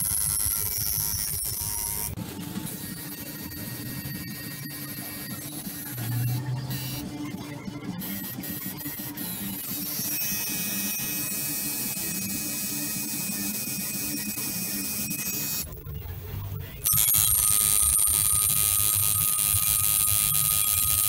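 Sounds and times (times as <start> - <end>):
tattoo machine buzzing: 0.0 - 7.1, 8.0 - 15.7, 16.8 - 21.0.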